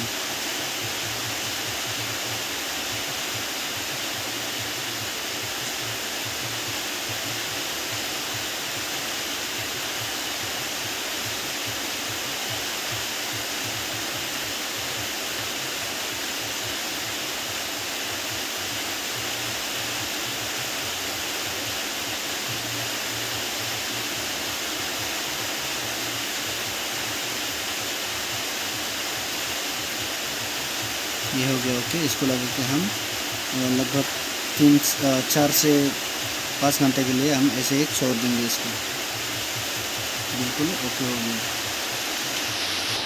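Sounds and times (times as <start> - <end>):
heavy rain hissing: 0.0 - 43.0.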